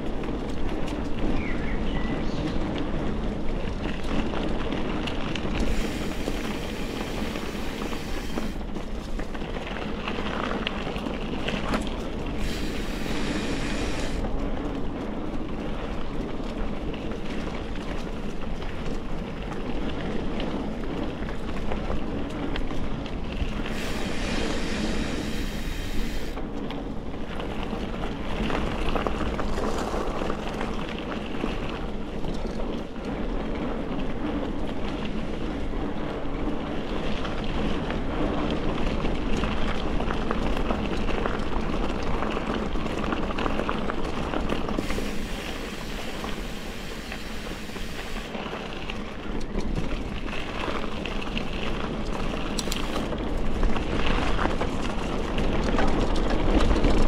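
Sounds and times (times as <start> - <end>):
bike rattling over bumps: 0.0 - 57.0
bike tyres rumbling on trail: 0.0 - 57.0.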